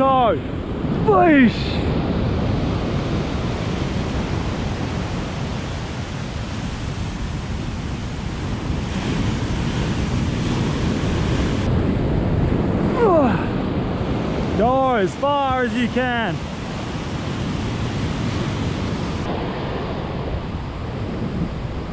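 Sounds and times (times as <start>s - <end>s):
heavy surf breaking: 0.0s - 21.9s
wind on microphone: 0.0s - 21.9s.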